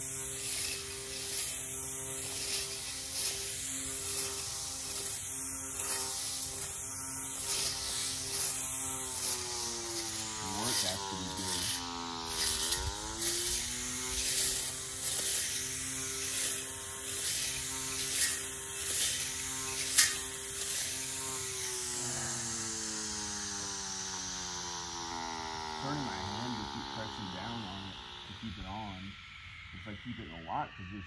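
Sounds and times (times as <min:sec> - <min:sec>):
clicks of blade cutting grass: 0:00.0 - 0:28.0
electric weed eater motor whining: 0:00.0 - 0:31.0.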